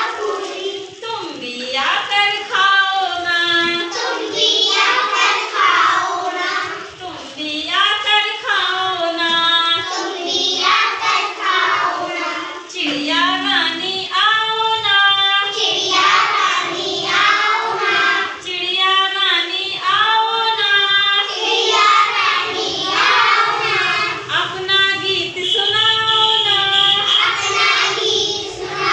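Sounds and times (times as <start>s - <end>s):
child singing: 0.0s - 1.0s, 2.4s - 7.0s, 7.8s - 24.4s, 26.3s - 28.9s.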